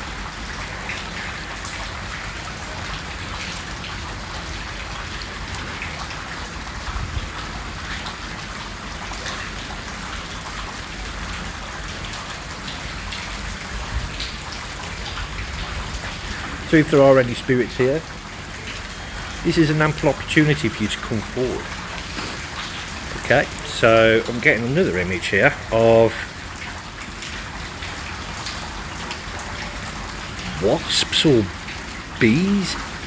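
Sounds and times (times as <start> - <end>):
heavy rain pattering: 0.0 - 33.0
water dripping: 0.0 - 33.0.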